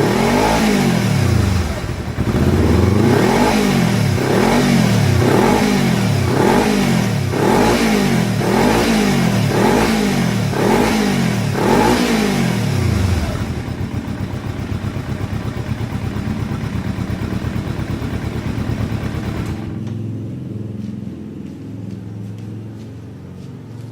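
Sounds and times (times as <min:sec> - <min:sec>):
motorcycle engine idling: 0:00.0 - 0:21.0
motorcycle engine revving: 0:00.0 - 0:21.6.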